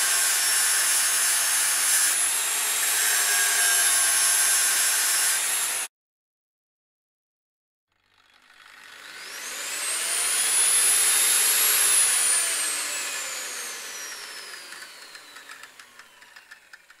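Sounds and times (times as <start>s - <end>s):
electric grinder whining: 0.0s - 5.9s, 8.0s - 17.0s.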